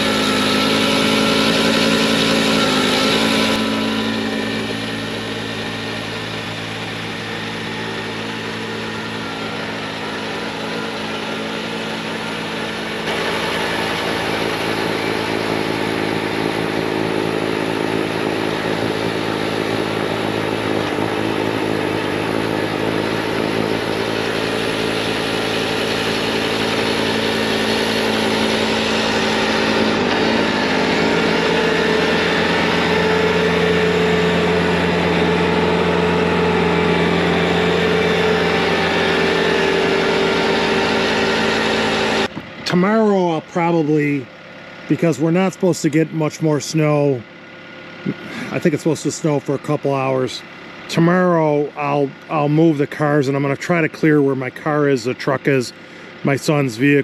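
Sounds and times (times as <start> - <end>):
diesel engine at full throttle: 0.0 - 57.0.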